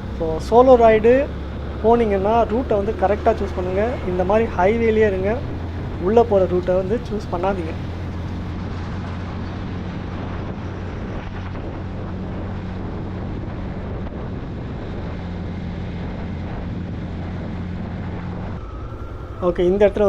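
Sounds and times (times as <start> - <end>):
vehicle engine humming: 0.0 - 20.0
wind on microphone: 0.0 - 20.0.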